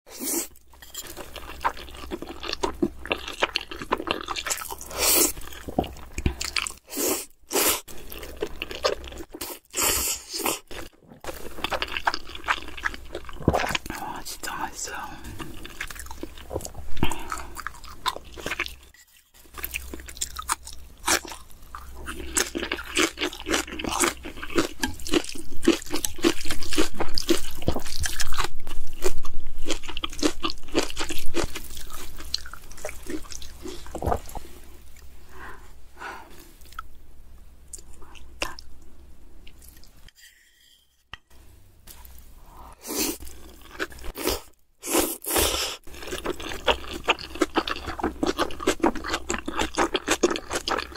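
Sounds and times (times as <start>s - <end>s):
chewing and slurping noodles: 0.2s - 14.0s, 15.3s - 35.1s, 42.9s - 50.9s.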